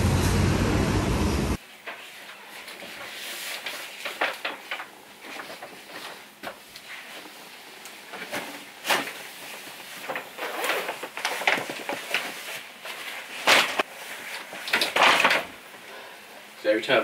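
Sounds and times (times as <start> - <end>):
paper bag rustling: 1.6 - 15.7
bags and clothing moved about: 1.6 - 15.8.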